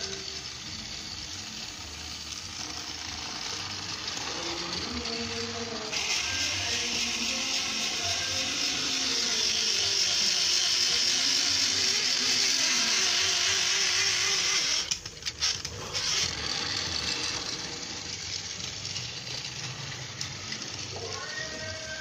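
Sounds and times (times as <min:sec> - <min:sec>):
toy train motor whirring: 0:00.0 - 0:22.0.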